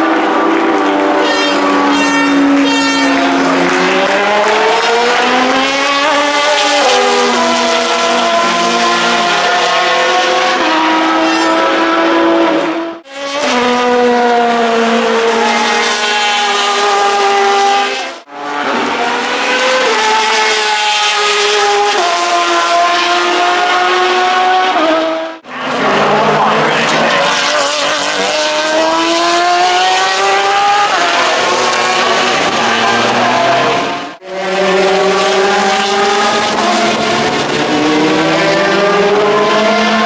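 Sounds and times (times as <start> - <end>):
race car engines at high revs: 0.0 - 40.0.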